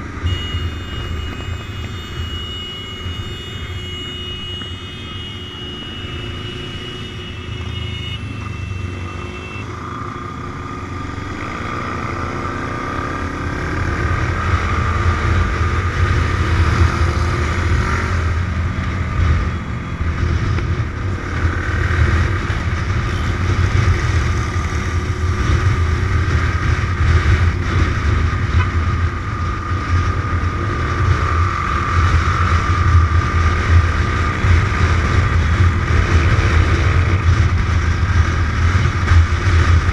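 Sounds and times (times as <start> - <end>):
motorcycle engine running: 0.0 - 39.9
other motorcycles riding: 0.0 - 39.9.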